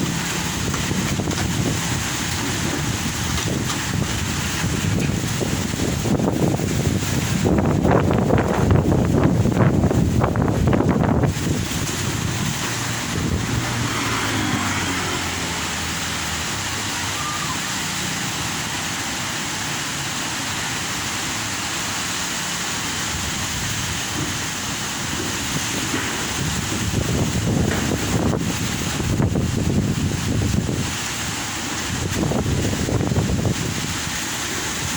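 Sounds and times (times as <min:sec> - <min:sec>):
strong wind through trees: 0:00.0 - 0:34.9.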